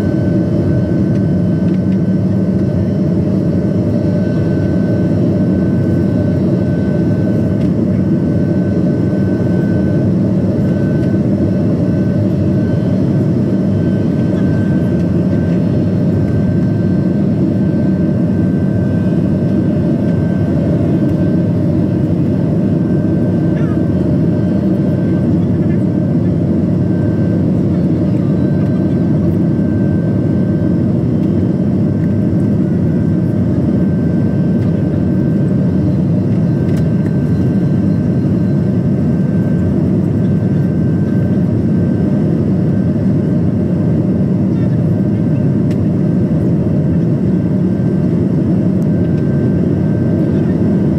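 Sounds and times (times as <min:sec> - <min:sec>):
jet engine roar in cabin: 0:00.0 - 0:50.9.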